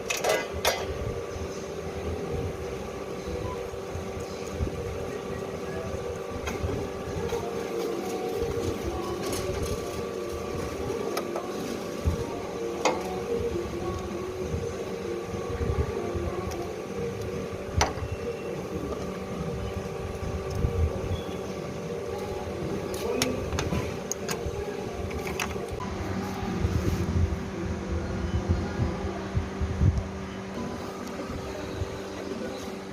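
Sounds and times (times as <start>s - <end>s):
strapping machine motor hum: 0.0s - 28.1s.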